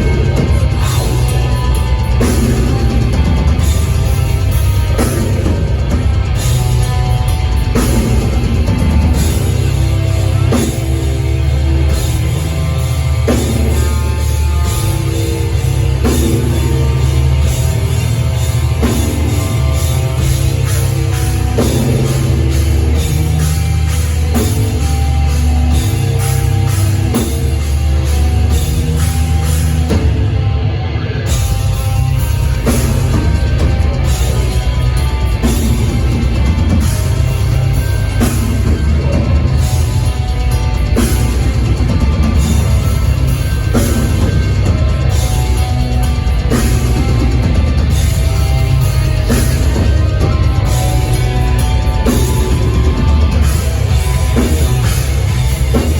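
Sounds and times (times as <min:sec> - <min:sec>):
drum kit fast beat: 0:00.0 - 0:30.5, 0:31.2 - 0:55.9
bass guitar: 0:00.0 - 0:55.9
distorted electric guitars: 0:00.0 - 0:55.9.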